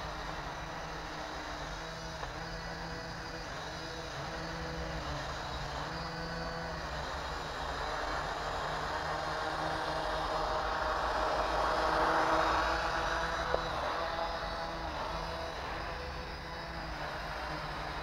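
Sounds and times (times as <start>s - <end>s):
toy drone propellers whirring: 0.0s - 18.0s.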